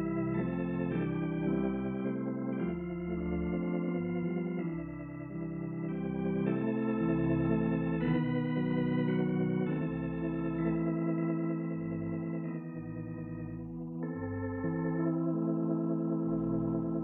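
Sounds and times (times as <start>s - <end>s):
organ chords: 0.0s - 17.0s.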